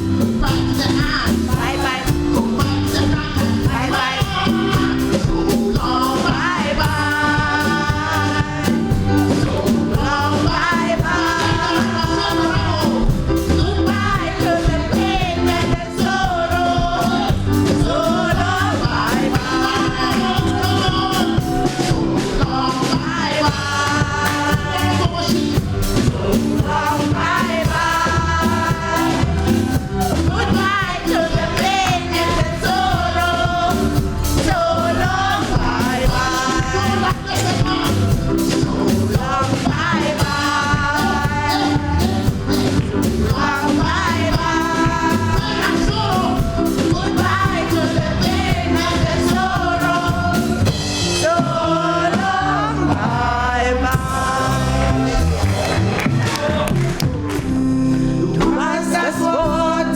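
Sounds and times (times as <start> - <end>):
band with steady drum beat: 0.0 - 59.9
gospel choir singing: 0.0 - 59.9.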